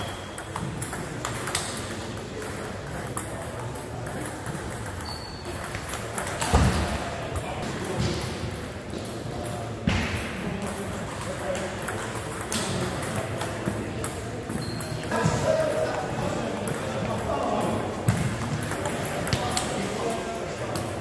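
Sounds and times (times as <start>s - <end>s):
table tennis balls ticking: 0.0s - 6.7s, 10.5s - 21.0s.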